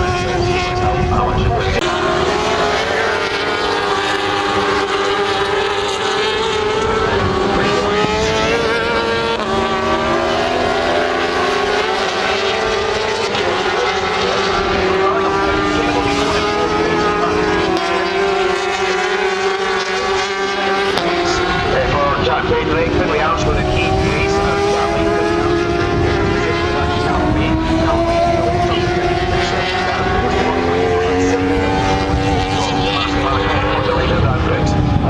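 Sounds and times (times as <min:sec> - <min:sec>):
racing motorcycle engines revving: 0:00.0 - 0:35.0.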